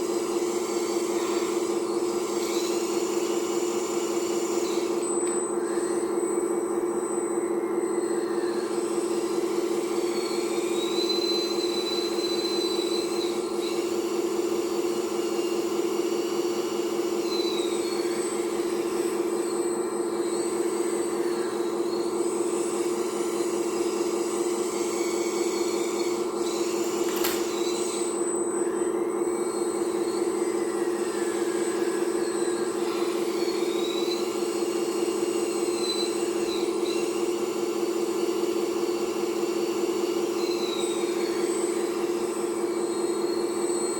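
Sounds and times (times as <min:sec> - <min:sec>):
high hydraulic whines: 0:00.0 - 0:43.9
hydraulic pump humming: 0:00.0 - 0:43.9.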